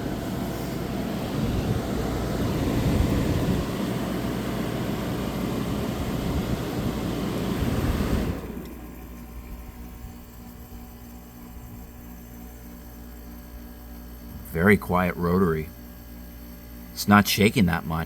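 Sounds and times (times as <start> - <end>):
air conditioner running: 0.0 - 18.0.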